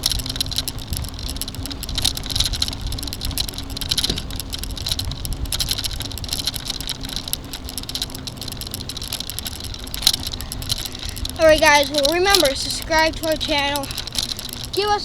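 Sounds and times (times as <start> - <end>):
bicycle rumbling: 0.0 - 15.0
rattling and ticking: 0.0 - 15.0
wind buffeting microphone: 0.0 - 15.0.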